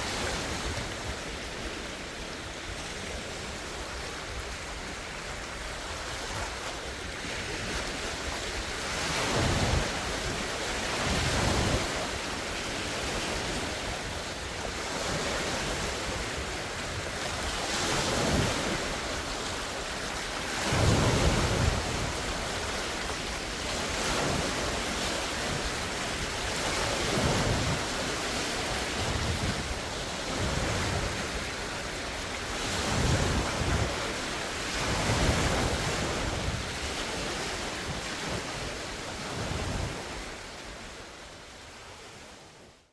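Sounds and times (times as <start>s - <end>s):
wind buffeting microphone: 0.0s - 40.6s
waves splashing against shore: 0.0s - 42.7s.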